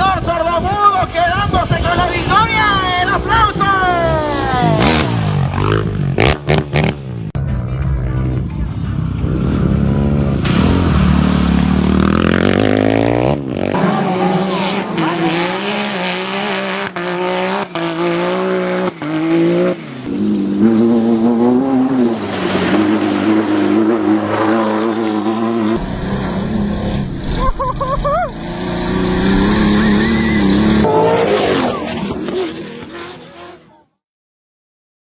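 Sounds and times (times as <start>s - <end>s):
off-road vehicle engine revving: 0.0s - 33.9s.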